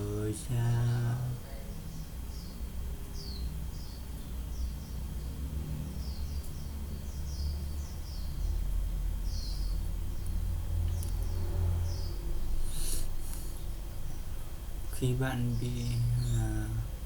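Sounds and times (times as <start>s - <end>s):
low ambient rumble: 0.0s - 17.0s
small birds chirping: 0.0s - 17.0s.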